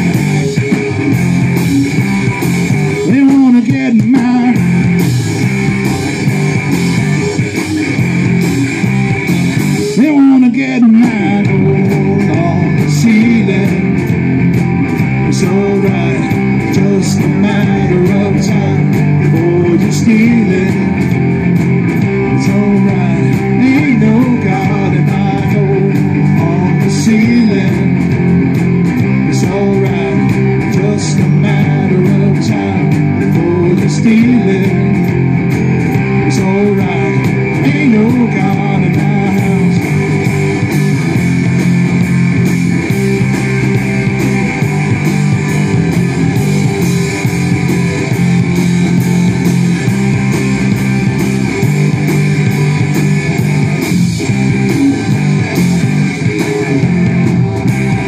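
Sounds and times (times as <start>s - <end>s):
distorted electric guitars: 0.0s - 58.0s
drum kit beat: 0.0s - 58.0s
electric bass: 0.0s - 58.0s.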